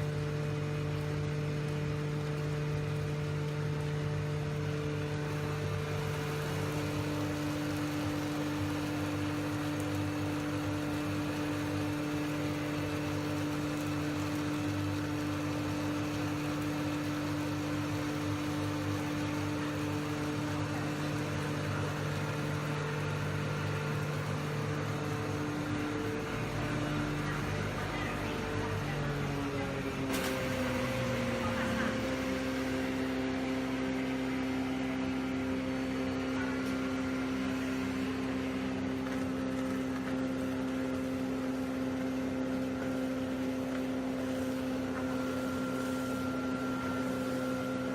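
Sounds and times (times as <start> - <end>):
powder mill machine hum: 0.0 - 47.9.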